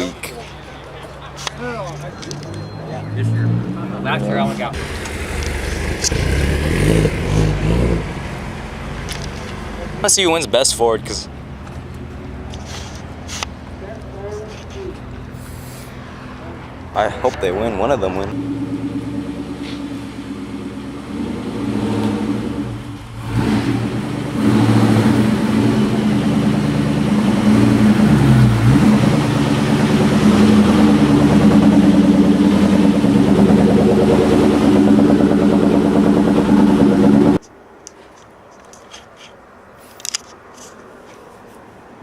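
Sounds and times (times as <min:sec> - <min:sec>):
car engine revving: 0:00.0 - 0:37.4.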